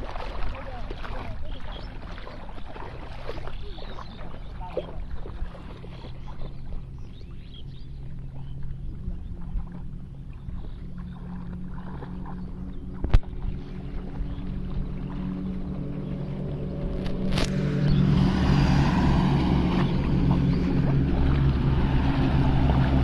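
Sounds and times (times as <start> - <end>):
low steady drone: 0.0 - 23.0
muddy water splashing: 0.0 - 23.0.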